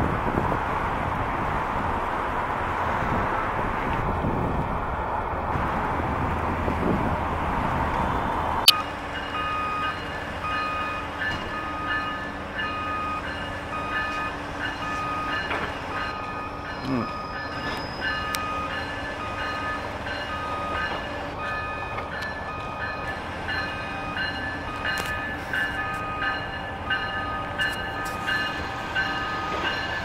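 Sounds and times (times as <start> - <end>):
train moving slowly on track: 0.0 - 30.0.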